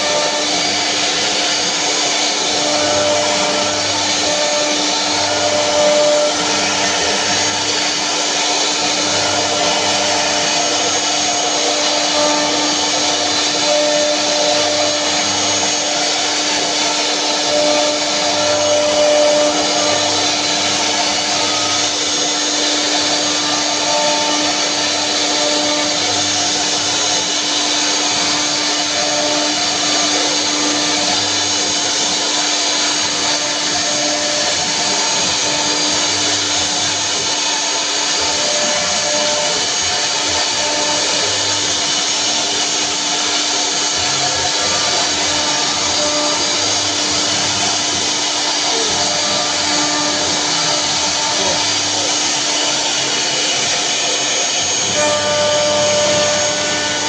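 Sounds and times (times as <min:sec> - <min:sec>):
woodworking machinery whirring: 0:00.0 - 0:57.0.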